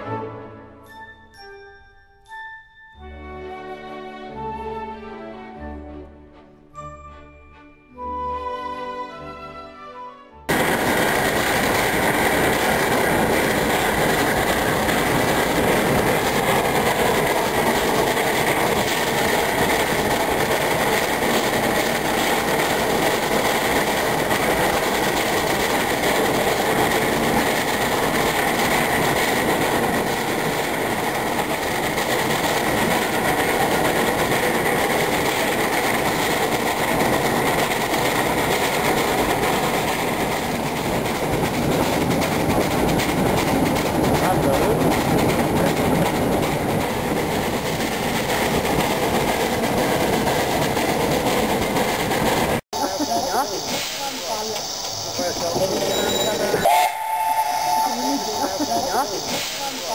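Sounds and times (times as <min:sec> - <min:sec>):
steam engine working: 0:10.5 - 0:59.9
wheels clattering on rails: 0:10.5 - 0:59.9.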